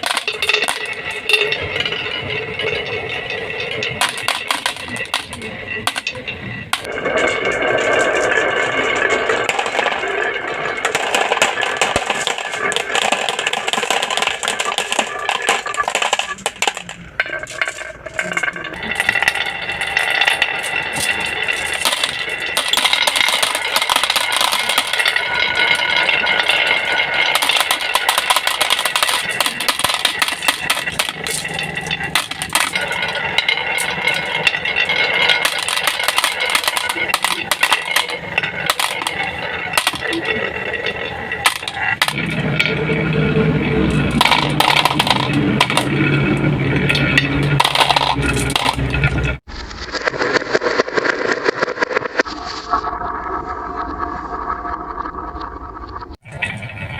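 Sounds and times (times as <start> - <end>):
marbles clattering down plastic run: 0.0 - 52.9.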